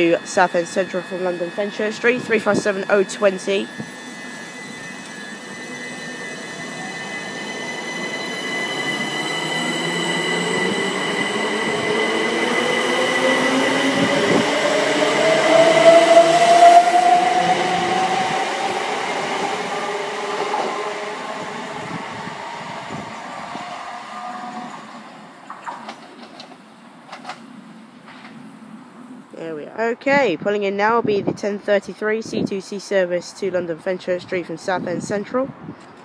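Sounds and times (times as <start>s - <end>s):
electric train motors whining: 0.0s - 29.3s.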